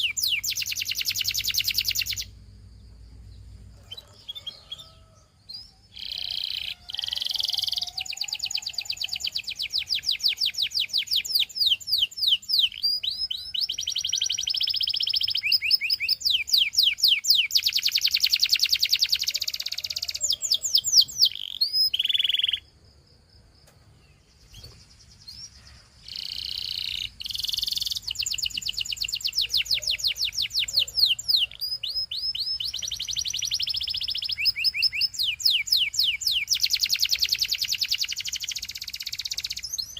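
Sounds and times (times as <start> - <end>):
canary singing trills: 0.0 - 22.8, 24.1 - 39.9.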